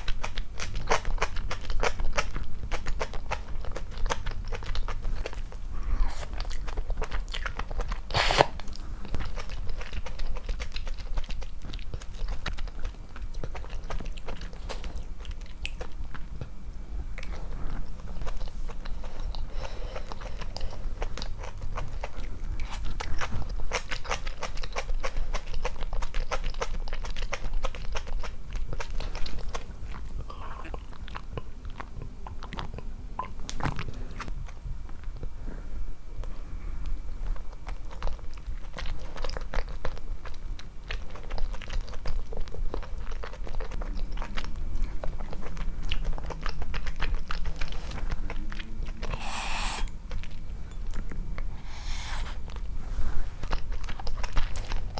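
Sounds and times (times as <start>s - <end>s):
person chewing and smacking: 0.0s - 34.3s, 37.3s - 52.7s, 53.4s - 54.9s.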